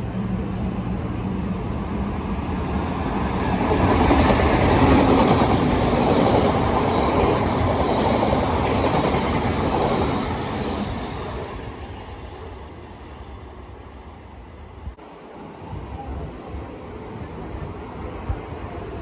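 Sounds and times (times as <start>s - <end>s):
train running through station: 0.0s - 19.0s.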